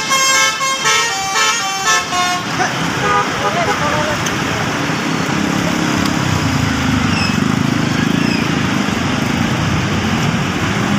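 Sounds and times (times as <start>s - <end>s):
bus diesel engine rumbling: 0.0s - 10.9s.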